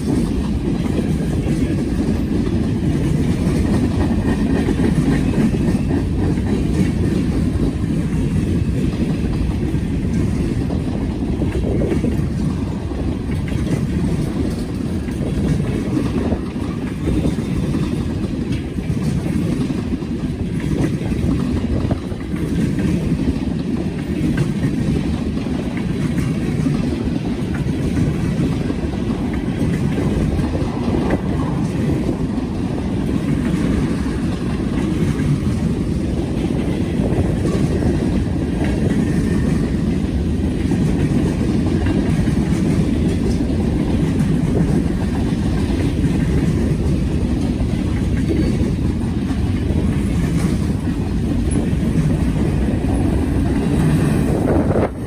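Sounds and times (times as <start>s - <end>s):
freight train cars rumbling: 0.0s - 55.0s
wheels clicking on rail: 0.0s - 55.0s.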